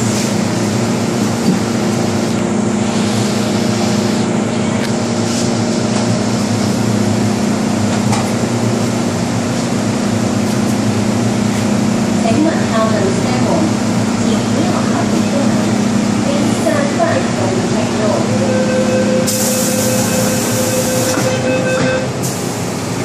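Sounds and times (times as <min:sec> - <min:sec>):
train air-conditioning hum: 0:00.0 - 0:23.0.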